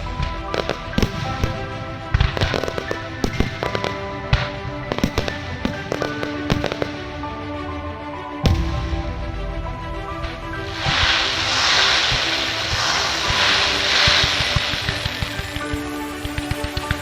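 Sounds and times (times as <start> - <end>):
fireworks bangs and crackles: 0.0 - 7.4, 8.4 - 17.0
music with long held notes: 0.0 - 17.0.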